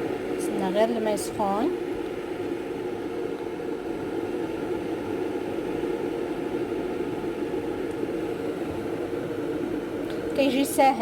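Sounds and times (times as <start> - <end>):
kitchen appliance hum and hiss: 0.0 - 11.0.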